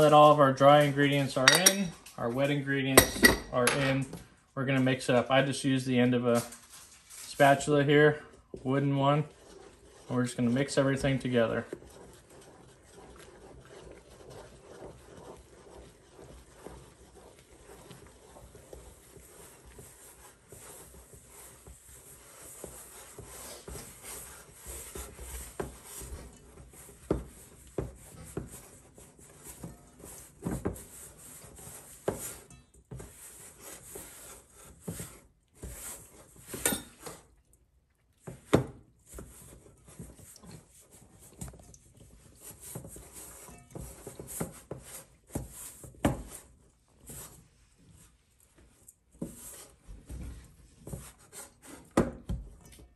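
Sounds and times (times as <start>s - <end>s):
spatula scraping dough in bowl: 0.0s - 4.0s, 5.1s - 37.4s, 38.2s - 52.9s.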